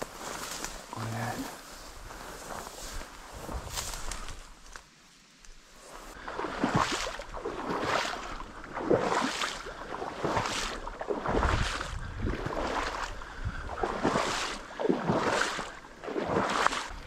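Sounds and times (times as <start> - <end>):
footsteps wading through marsh water: 0.0 - 4.8, 5.8 - 17.0.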